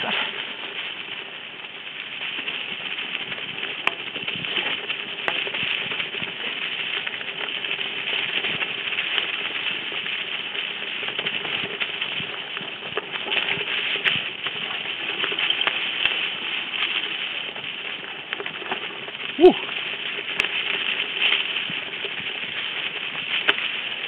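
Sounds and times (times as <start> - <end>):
bike tyres rustling over leaves: 0.0 - 24.0.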